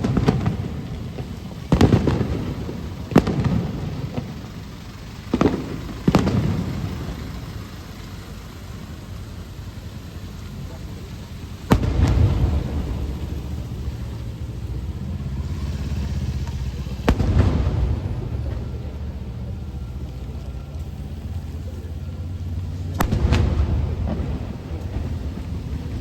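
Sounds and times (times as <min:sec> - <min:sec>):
firework shells bursting: 0:00.0 - 0:21.7, 0:22.4 - 0:26.0
low rolling rumble: 0:00.0 - 0:26.0.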